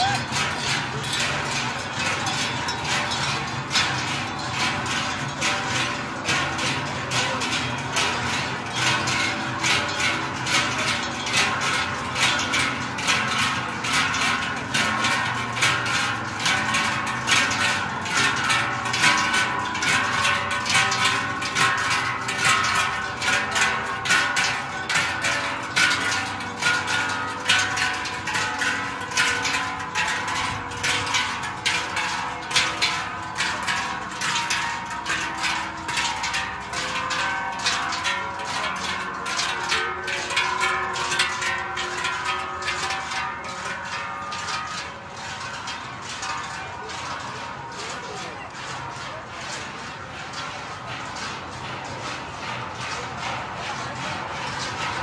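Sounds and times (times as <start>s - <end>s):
cowbells clanging: 0.0s - 55.0s.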